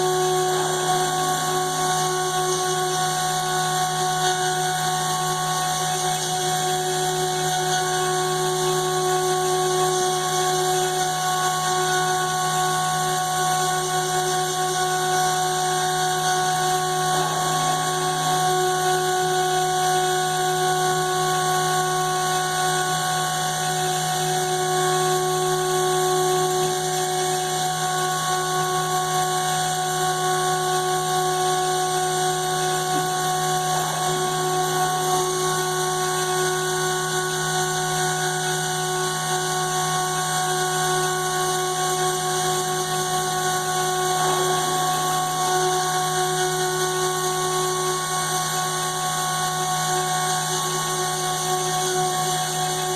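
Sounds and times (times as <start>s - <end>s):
router spindle whine: 0.0s - 52.9s.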